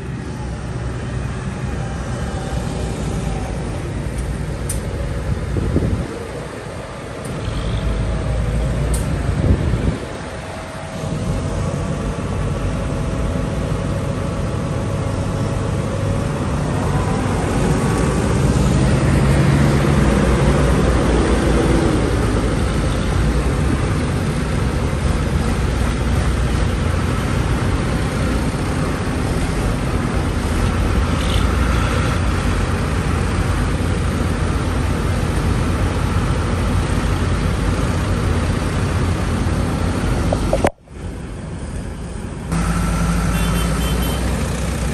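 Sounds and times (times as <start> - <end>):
tractor engines running: 0.0 - 44.9.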